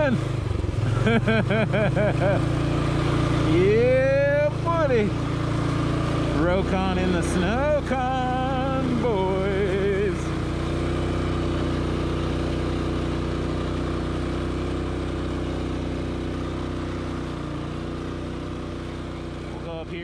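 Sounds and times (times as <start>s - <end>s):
motorbike engine running: 0.0s - 20.0s.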